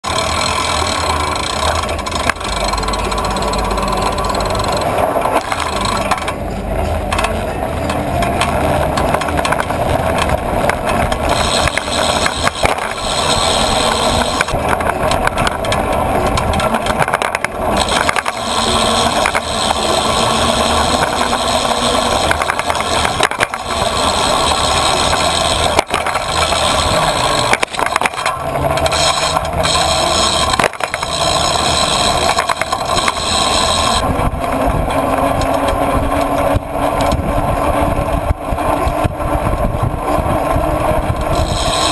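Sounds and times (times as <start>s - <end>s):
bicycle rolling over pavement: 0.0s - 41.9s
bike rattling over bumps: 0.0s - 41.9s
road traffic: 0.0s - 41.9s.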